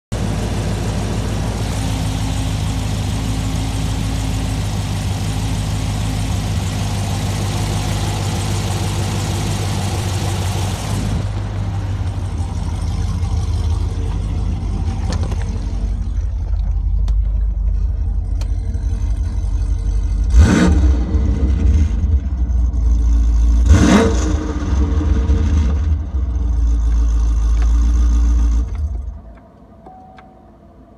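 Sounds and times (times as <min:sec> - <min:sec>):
car engine idling: 0:00.0 - 0:30.9
engine throttle blips: 0:00.0 - 0:30.9.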